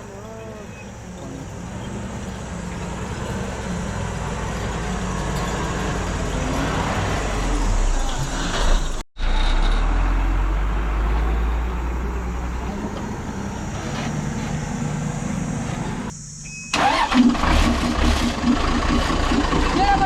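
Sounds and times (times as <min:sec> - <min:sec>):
heavy truck engine rumble: 0:00.0 - 0:20.0.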